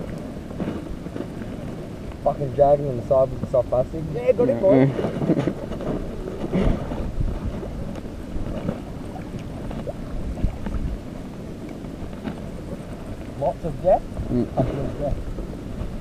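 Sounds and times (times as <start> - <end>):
water sloshing around legs: 0.0 - 15.1
wind buffeting microphone: 0.0 - 16.0.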